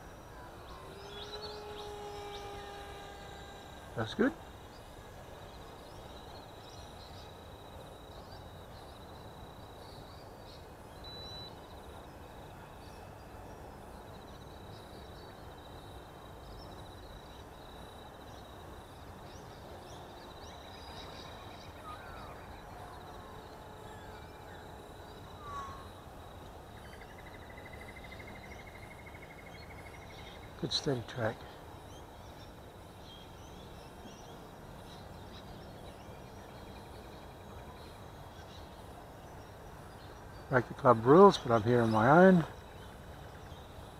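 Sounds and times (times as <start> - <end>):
steady low hiss: 0.0 - 43.9.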